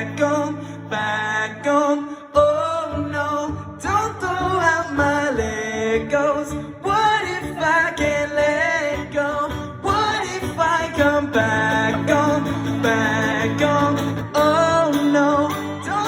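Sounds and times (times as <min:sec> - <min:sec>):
guitar playing: 0:00.0 - 0:16.0
person singing pop song: 0:00.0 - 0:16.0.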